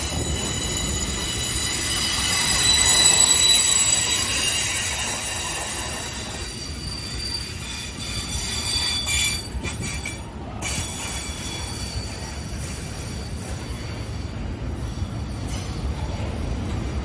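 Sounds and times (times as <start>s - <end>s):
high-pitched wheel squeal: 0.0s - 16.0s
train wheels rumbling on rail: 0.0s - 17.0s.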